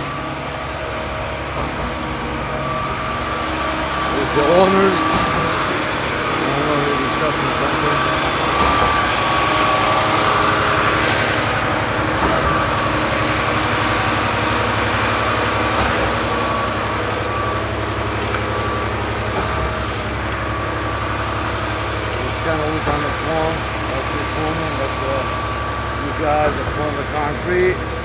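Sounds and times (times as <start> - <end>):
thin mechanical whine: 0.0 - 28.0
truck engine drone: 0.0 - 28.0.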